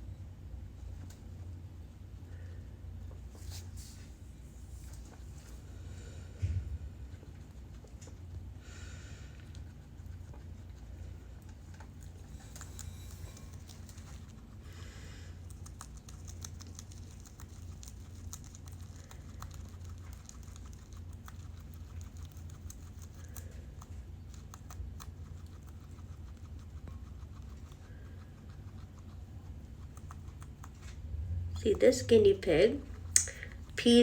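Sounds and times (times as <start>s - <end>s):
guinea pig munching: 0.0s - 34.0s
low steady hum: 0.0s - 34.0s.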